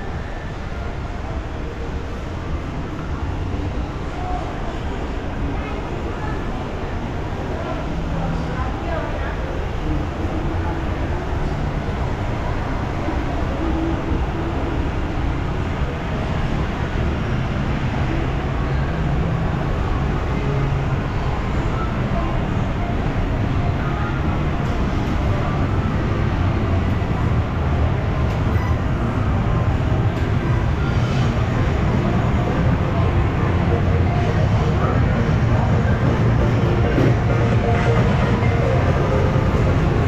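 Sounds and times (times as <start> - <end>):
indistinct voices: 0.0 - 40.0
mall background rumble: 0.0 - 40.0.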